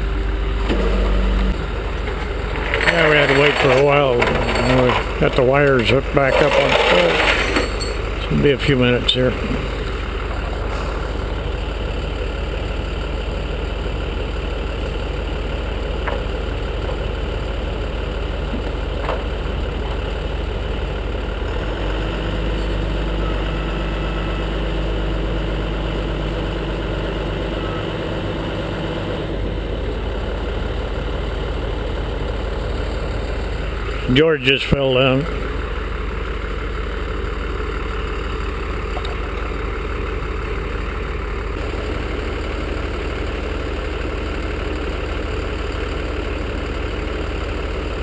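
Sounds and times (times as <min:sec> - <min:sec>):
truck engine idling: 0:00.0 - 0:48.0.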